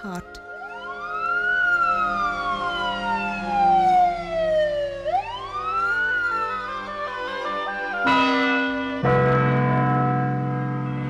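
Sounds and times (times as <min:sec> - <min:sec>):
background music: 0:00.0 - 0:11.0
emergency siren wailing: 0:00.4 - 0:11.0.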